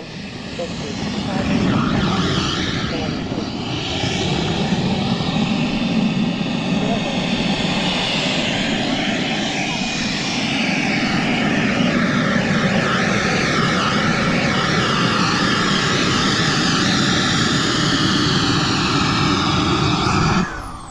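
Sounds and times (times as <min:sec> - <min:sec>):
model jet turbine idling: 0:00.0 - 0:20.9
wavering high whine: 0:00.0 - 0:20.9.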